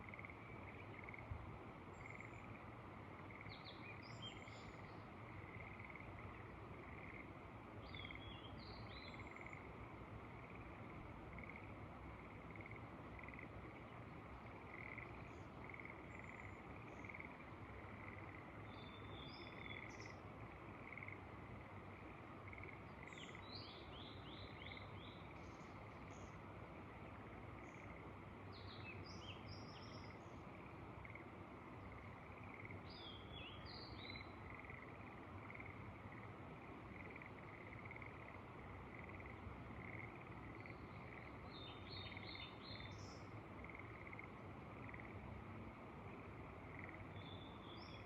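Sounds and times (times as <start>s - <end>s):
frogs calling: 0.0s - 1.3s, 1.9s - 2.6s, 3.2s - 26.5s, 27.4s - 45.3s, 46.2s - 48.0s
faint steady hiss: 0.0s - 48.0s
songbird singing: 0.0s - 48.0s.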